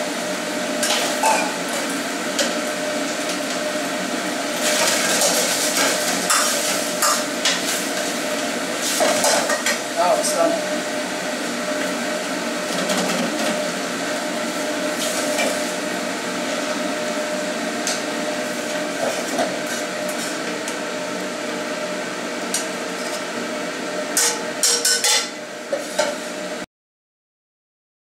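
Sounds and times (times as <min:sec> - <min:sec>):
pork sizzling in a wok: 0:00.0 - 0:26.6.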